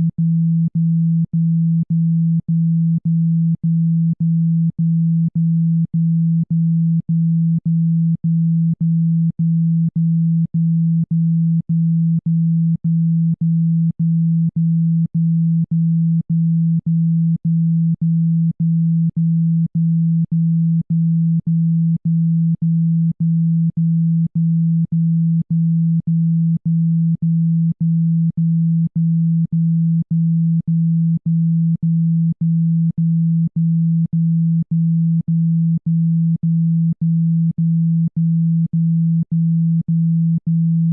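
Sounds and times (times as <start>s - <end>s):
pulsing low hum tone: 0.0s - 40.9s.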